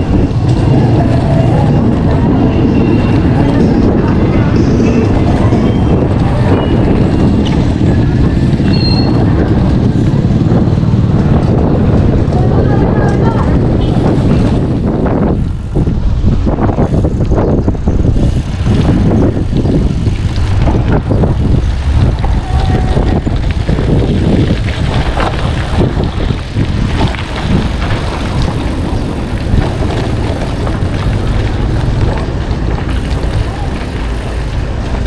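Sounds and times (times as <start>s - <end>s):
road and traffic noise: 0.0s - 35.0s
wind buffeting microphone: 0.0s - 35.0s.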